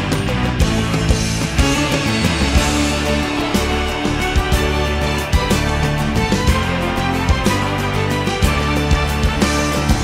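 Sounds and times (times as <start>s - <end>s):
music with drum hits: 0.0s - 10.0s.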